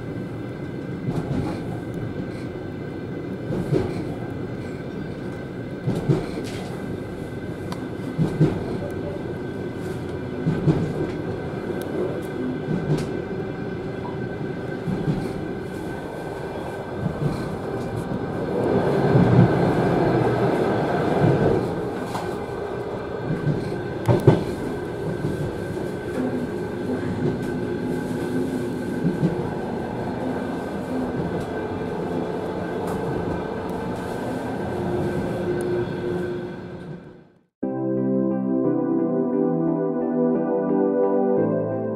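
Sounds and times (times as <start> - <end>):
train wheels rumbling on track: 0.0 - 37.4.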